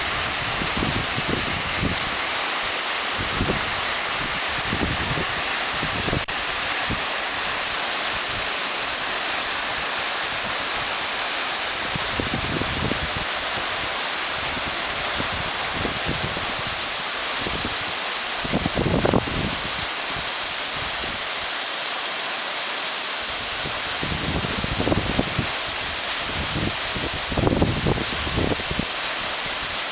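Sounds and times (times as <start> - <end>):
waterfall pouring: 0.0 - 29.9.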